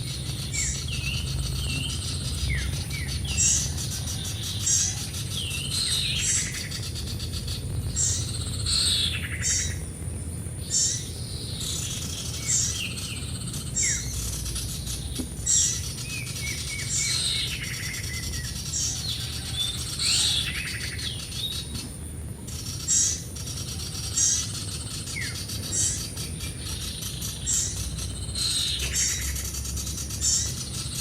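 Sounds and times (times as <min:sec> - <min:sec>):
low steady rumble: 0:00.0 - 0:31.0
small birds chirping: 0:00.0 - 0:31.0.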